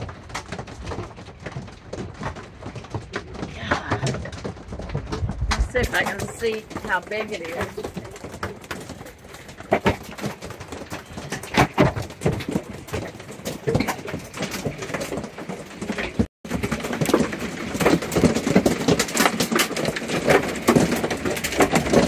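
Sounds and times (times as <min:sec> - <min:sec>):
hail pelting a roof: 0:00.0 - 0:22.0.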